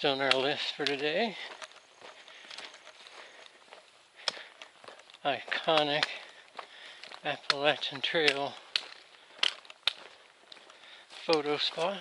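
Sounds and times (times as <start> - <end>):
light ticks: 0.1 - 3.6, 4.2 - 12.0.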